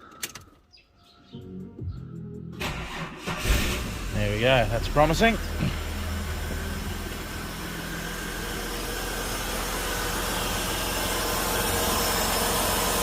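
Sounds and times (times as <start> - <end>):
car engine idling: 2.6 - 13.0.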